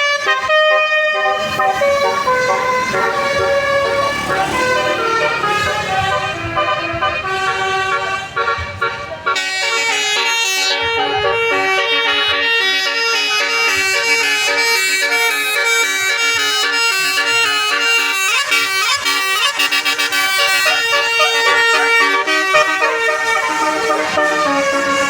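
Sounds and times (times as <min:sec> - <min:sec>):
multi-tone bus air horn tune: 0:00.0 - 0:25.0.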